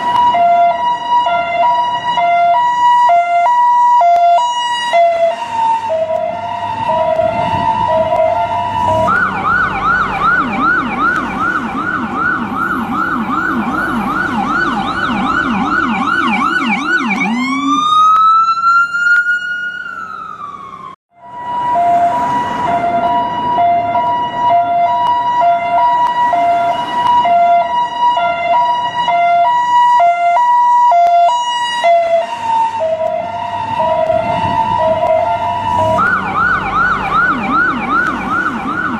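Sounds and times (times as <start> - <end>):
ambulance siren: 0.0 - 38.9.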